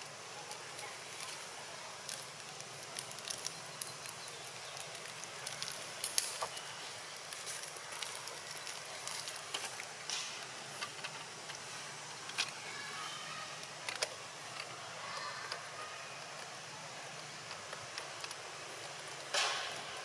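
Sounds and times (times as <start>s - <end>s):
small clicks and crackles: 0.0s - 20.0s
steady hiss: 0.0s - 20.0s.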